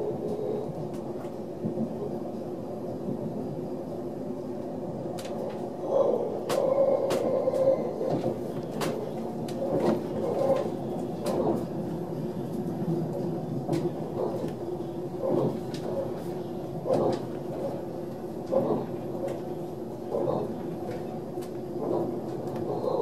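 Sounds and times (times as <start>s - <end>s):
train running gear rumble: 0.0s - 23.0s.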